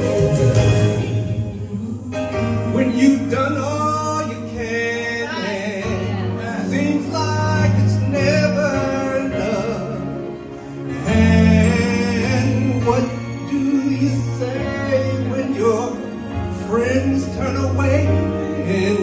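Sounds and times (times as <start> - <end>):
instrumental accompaniment: 0.0 - 19.0
man singing gospel song: 1.7 - 10.2, 10.9 - 19.0.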